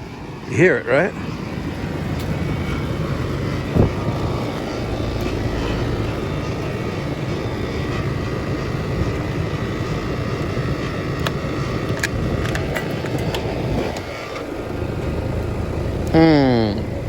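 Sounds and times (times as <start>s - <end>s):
air conditioner unit running: 0.0s - 17.0s
odd compressor noise: 0.0s - 17.0s.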